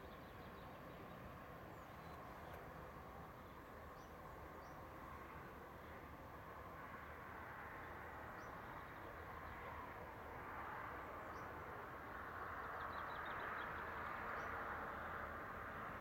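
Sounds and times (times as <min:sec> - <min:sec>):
distant diesel locomotives: 0:00.0 - 0:16.0.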